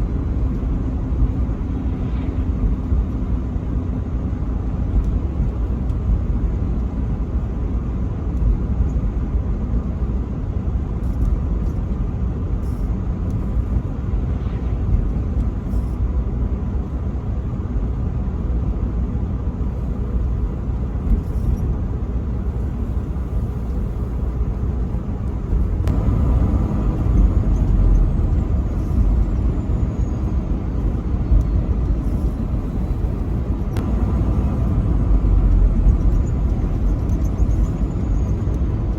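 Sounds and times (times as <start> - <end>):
truck driving on highway: 0.0 - 38.9.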